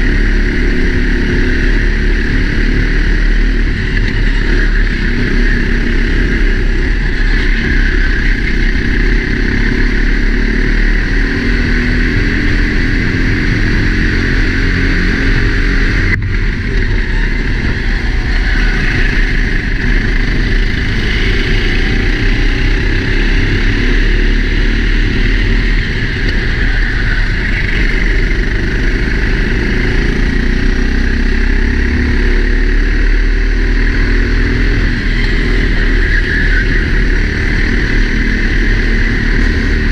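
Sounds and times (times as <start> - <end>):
wind noise: 0.0 - 32.1, 33.2 - 39.9
kart engine running hard: 0.0 - 39.9.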